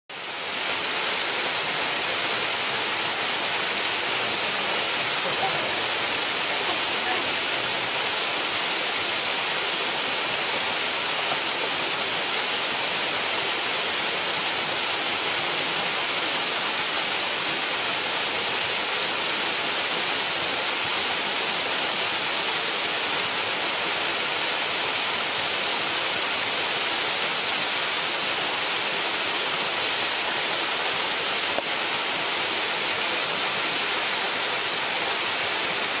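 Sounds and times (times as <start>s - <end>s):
waterfall rushing: 0.1s - 36.0s.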